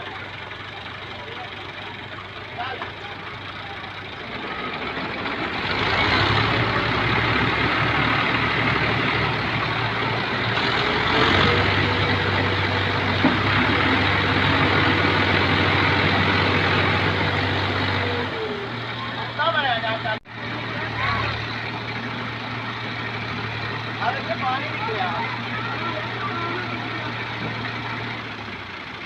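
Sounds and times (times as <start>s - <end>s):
diesel tractor engine revving: 0.0s - 29.0s.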